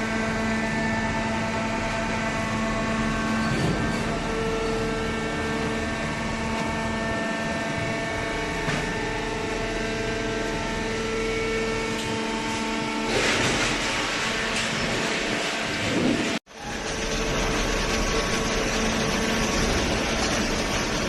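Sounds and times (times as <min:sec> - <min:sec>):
motor and pump hum: 0:00.0 - 0:21.0.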